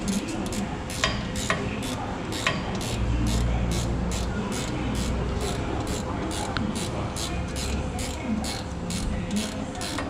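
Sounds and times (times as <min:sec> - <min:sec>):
ratchet wrench clicking: 0:00.1 - 0:10.0.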